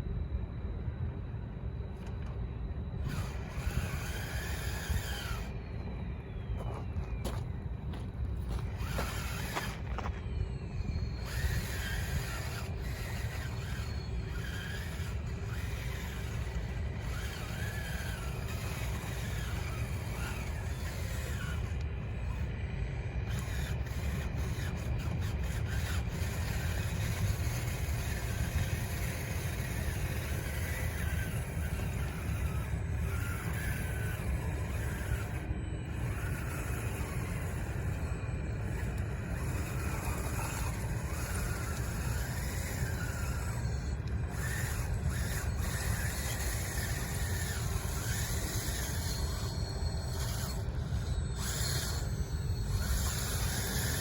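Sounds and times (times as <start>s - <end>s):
steady low rumble: 0.0s - 48.1s
electric motors whining: 0.0s - 54.0s.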